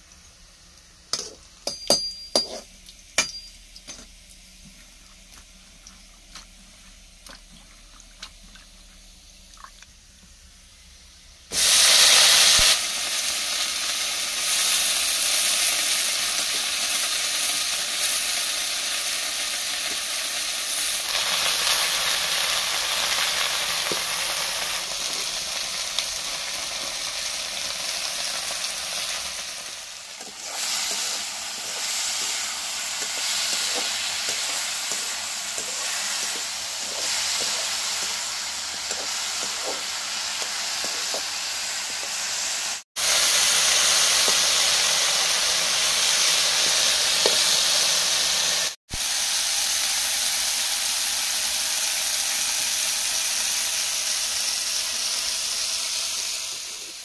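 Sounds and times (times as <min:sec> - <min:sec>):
vegetables sizzling in hot oil: 0:10.2 - 0:57.0.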